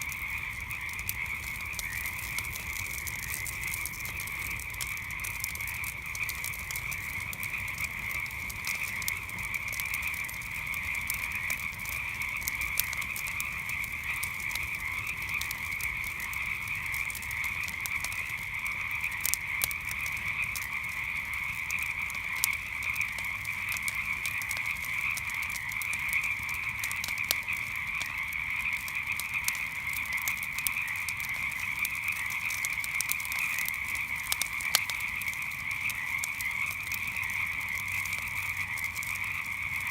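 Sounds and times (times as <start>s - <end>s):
campfire crackling: 0.0s - 39.9s
frogs calling: 0.0s - 39.9s.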